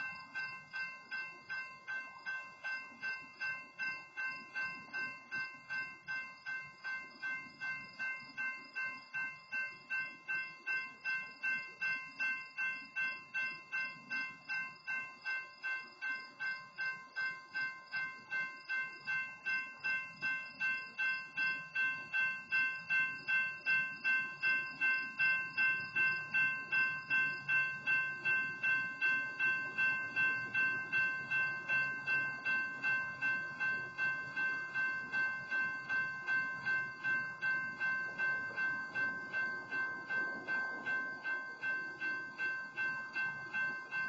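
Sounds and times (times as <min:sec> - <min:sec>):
railroad crossing bell ringing: 0:00.0 - 0:44.0.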